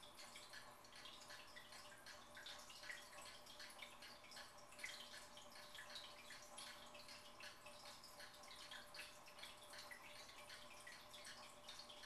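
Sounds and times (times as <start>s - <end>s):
aquarium water trickling and dripping: 0.0s - 12.0s
faint steady hum: 0.0s - 12.0s.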